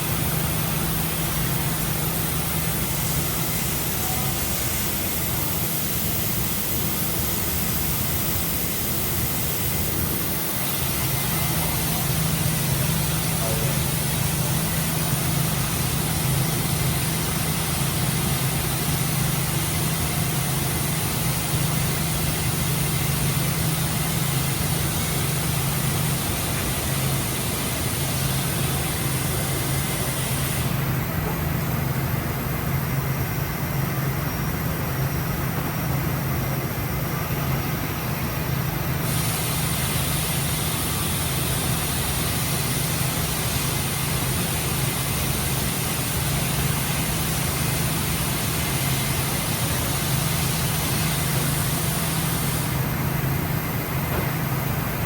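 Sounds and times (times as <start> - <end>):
machine high hiss: 0.0 - 55.0.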